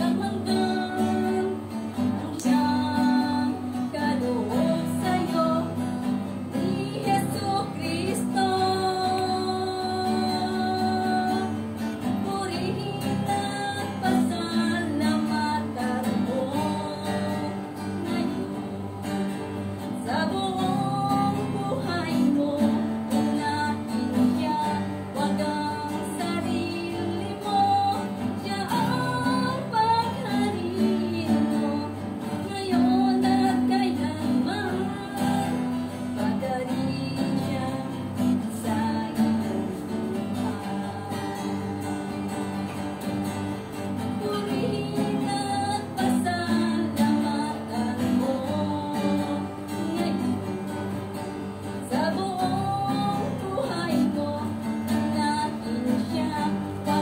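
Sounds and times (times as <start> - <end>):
acoustic guitar strumming: 0.0 - 57.0
woman singing slow song: 0.0 - 57.0.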